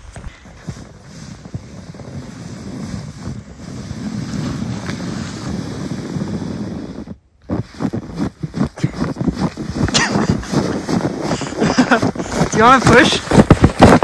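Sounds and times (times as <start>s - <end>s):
sled scraping on snow: 0.0s - 14.0s.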